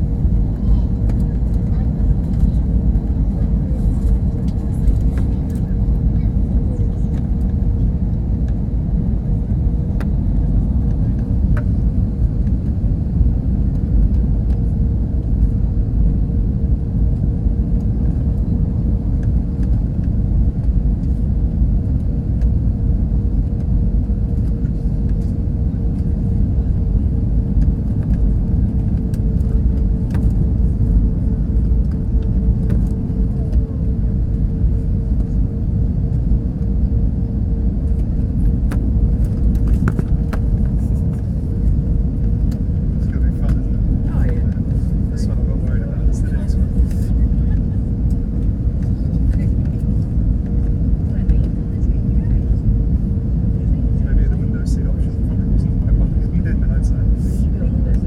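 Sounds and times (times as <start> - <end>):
aircraft engine rumble: 0.0 - 58.0
mid-pitched hum: 0.0 - 58.0.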